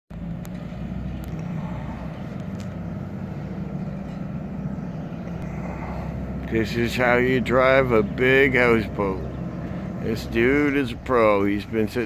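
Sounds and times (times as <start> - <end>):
boat engine humming: 0.1 - 12.0.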